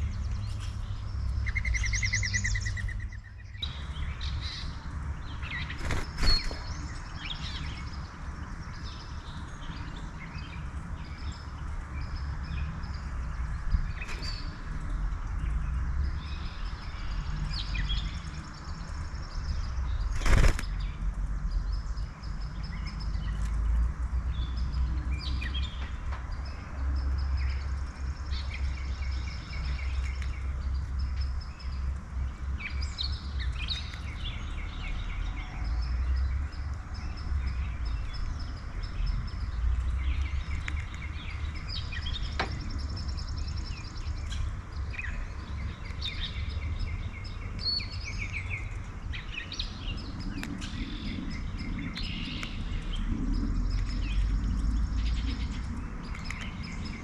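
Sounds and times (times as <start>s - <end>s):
songbirds chirping and trilling: 0.0s - 57.0s
steady low rumble: 0.0s - 57.0s.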